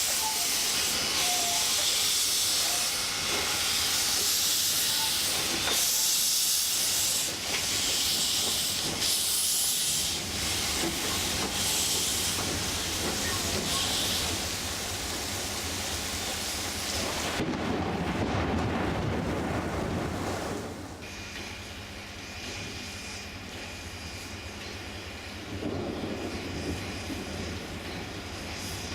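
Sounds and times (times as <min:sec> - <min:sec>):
steam locomotive hissing: 0:00.0 - 0:17.4, 0:21.0 - 0:28.9.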